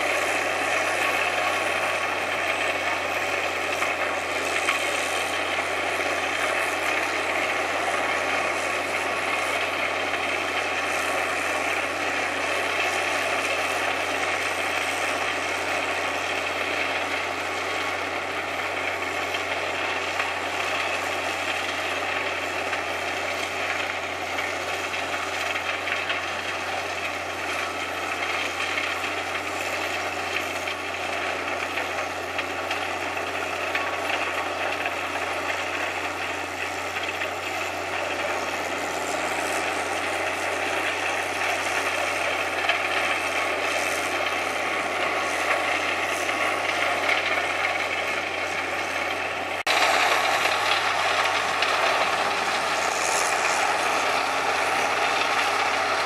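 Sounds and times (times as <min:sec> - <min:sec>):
heavy machinery noise: 0:00.0 - 0:56.0
wood chipper running: 0:00.0 - 0:56.0.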